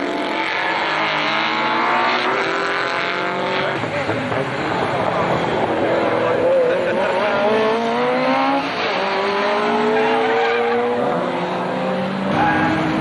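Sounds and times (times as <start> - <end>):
racing car engine accelerating: 0.0 - 13.0.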